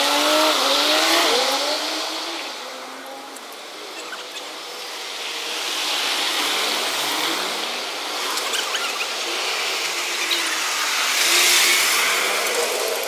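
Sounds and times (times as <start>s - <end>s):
truck engine and tyre noise: 0.0s - 13.0s.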